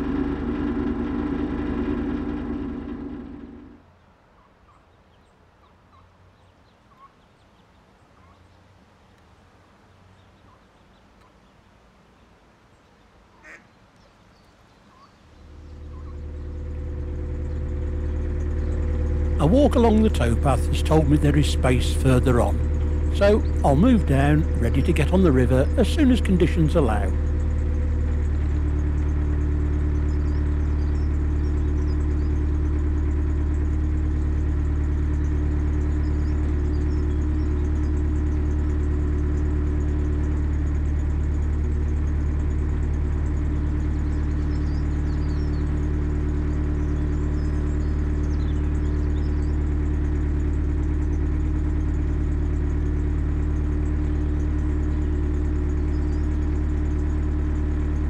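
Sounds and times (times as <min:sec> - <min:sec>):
boat engine humming: 0:00.0 - 0:58.0.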